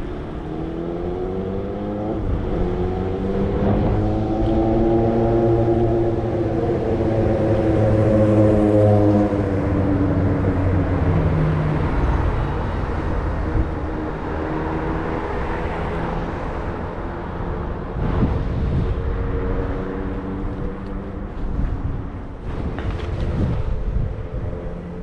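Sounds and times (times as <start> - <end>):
road and wind noise: 0.0 - 25.0
vehicle engine hum: 0.0 - 25.0.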